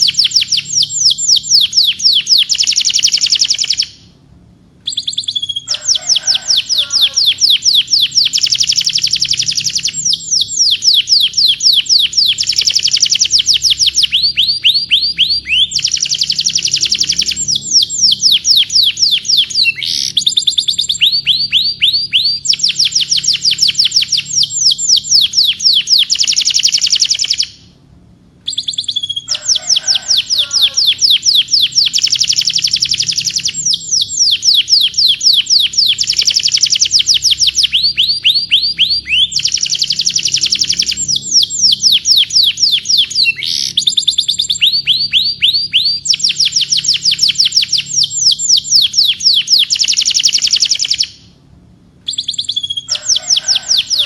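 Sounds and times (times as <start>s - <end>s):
canary singing trills: 0.0s - 4.2s, 4.8s - 27.8s, 28.4s - 51.4s, 52.0s - 54.0s.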